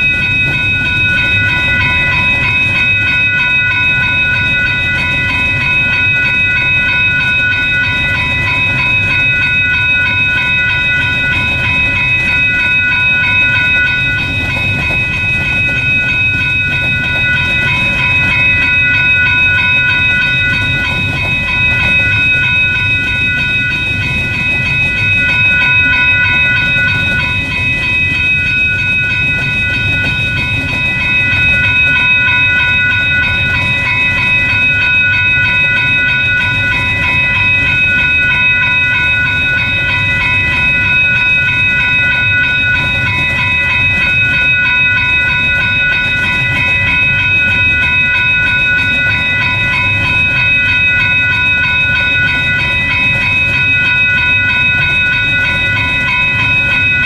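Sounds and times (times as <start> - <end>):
high ringing tones: 0.0 - 57.0
train wheels rumbling on rails: 0.0 - 57.0.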